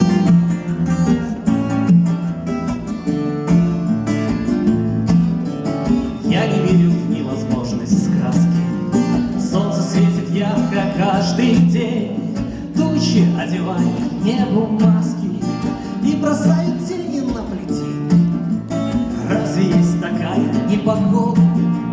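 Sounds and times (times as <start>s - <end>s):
plucked acoustic guitar: 0.0s - 21.9s.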